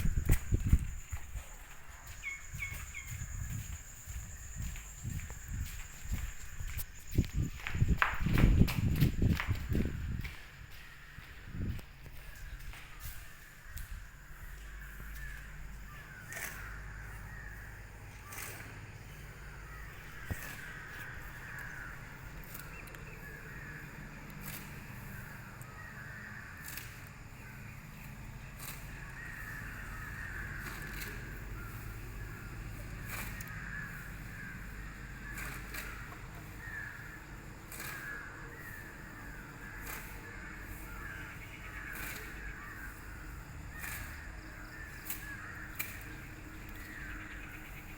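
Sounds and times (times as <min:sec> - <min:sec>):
birds chattering: 0:00.0 - 0:47.9.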